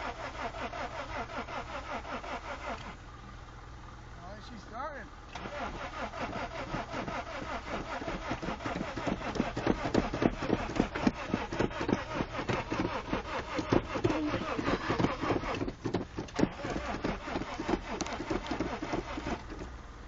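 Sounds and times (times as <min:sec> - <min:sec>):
car engine cranking: 0:00.0 - 0:04.0, 0:05.1 - 0:20.0.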